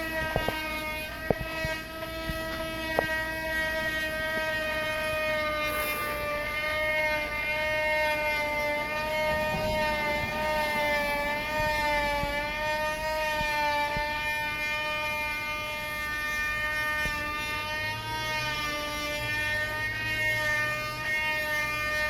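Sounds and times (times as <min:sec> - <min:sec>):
droning hum from the sky: 0:00.0 - 0:22.0.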